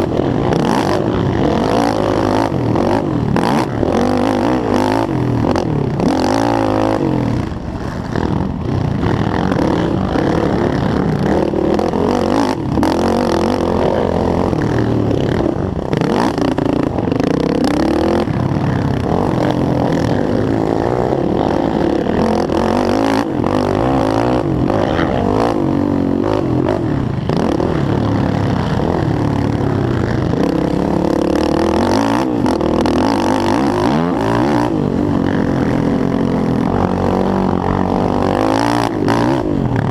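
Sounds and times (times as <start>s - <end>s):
quad engine racing: 0.0s - 39.9s.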